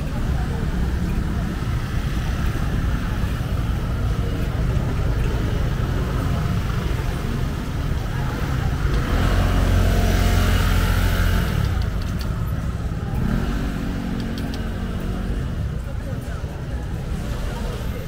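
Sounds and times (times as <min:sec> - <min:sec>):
traffic rumble: 0:00.0 - 0:18.0
vehicle engine humming: 0:00.0 - 0:18.0.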